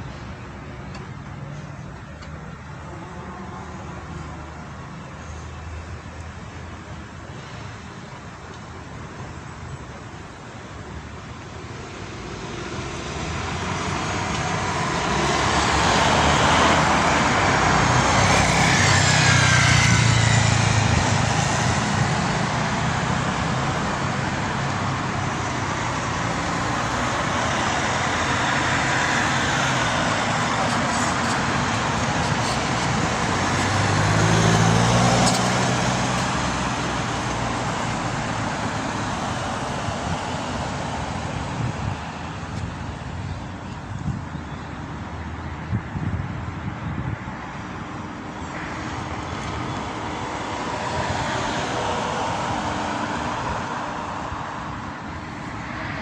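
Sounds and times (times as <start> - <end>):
cars driving past: 10.9 - 56.0.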